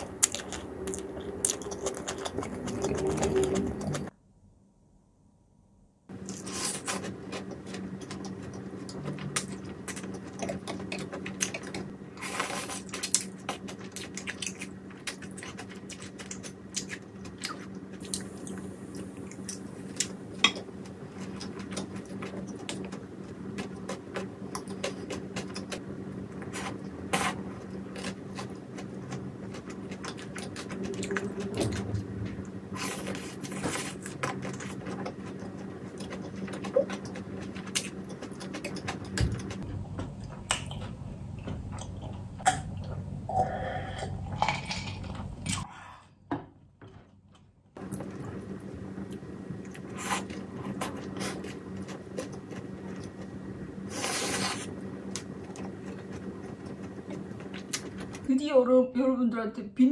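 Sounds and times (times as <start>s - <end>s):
chewing with crisp crunches: 0.0s - 4.1s, 6.2s - 43.0s, 47.3s - 58.3s
steady low hum: 0.0s - 59.2s.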